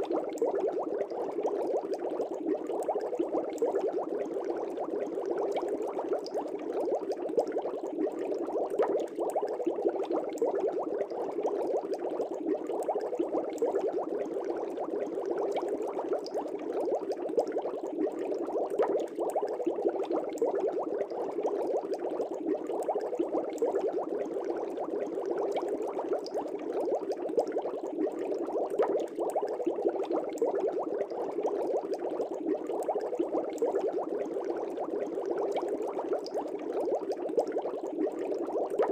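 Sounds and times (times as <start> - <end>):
aquarium air bubbling: 0.0 - 38.9.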